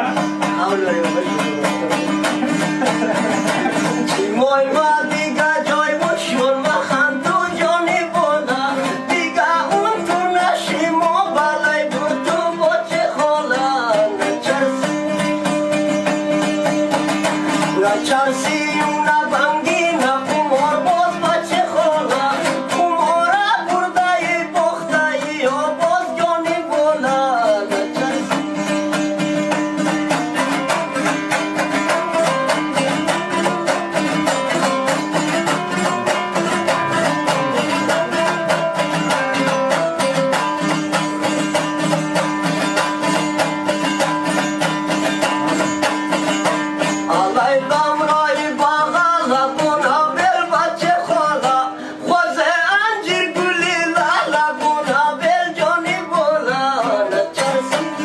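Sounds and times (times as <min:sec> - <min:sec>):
lute strummed fast: 0:00.0 - 0:58.0
man singing: 0:00.0 - 0:58.0.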